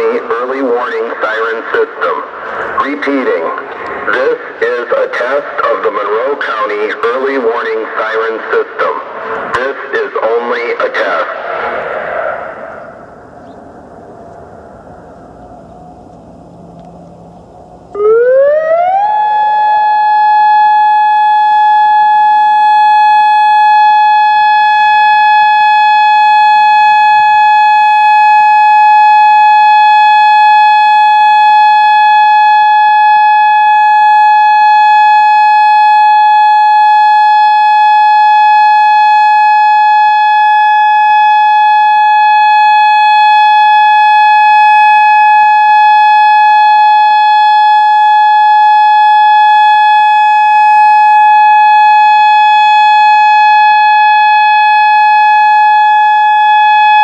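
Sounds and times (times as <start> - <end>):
civil defense siren steady tone: 0.0 - 57.0.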